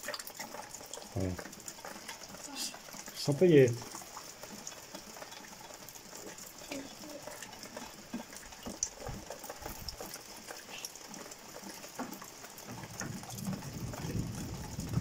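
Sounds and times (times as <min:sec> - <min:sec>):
light rain pattering: 0:00.0 - 0:15.0
water drips: 0:00.0 - 0:15.0.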